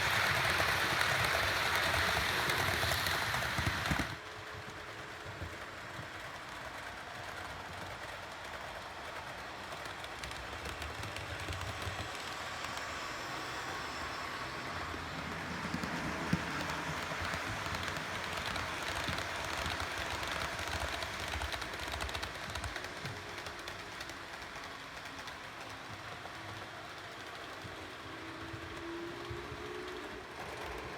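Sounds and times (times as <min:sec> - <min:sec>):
model train motor hum: 0:00.0 - 0:30.9.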